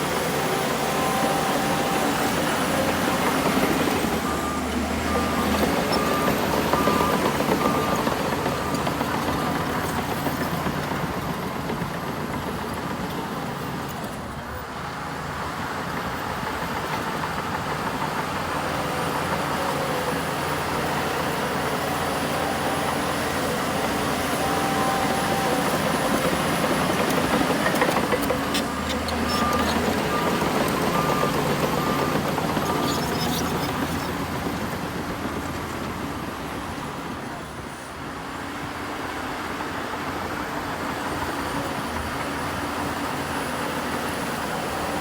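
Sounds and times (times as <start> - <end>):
diesel earthmoving machinery: 0.0 - 45.0.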